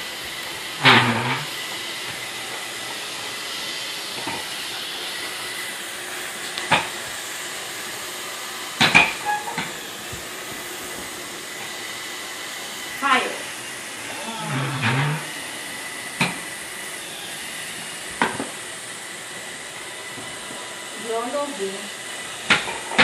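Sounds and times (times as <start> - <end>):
room hiss: 0.0 - 23.0.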